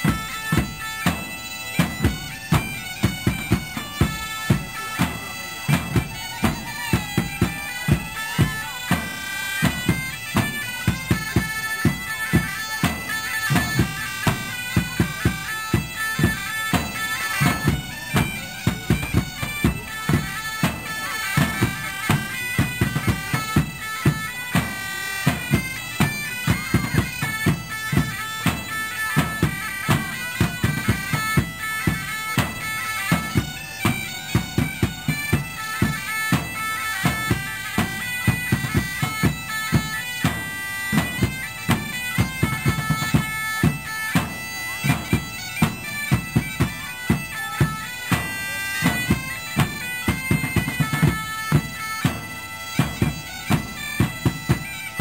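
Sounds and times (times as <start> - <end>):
bagpipes playing: 0.0 - 55.0
drum beat: 0.0 - 55.0.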